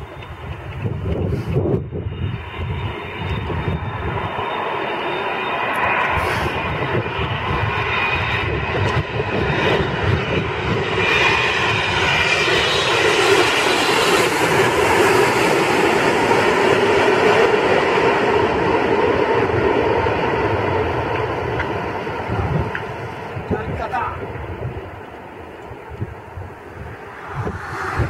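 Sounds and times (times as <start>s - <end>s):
jet airliner engines rumbling: 0.0s - 28.0s.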